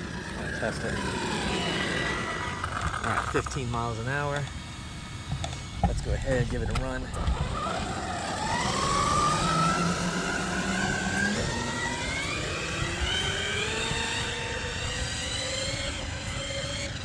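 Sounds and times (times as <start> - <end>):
electric motor whine rising in pitch: 0.0 - 17.0.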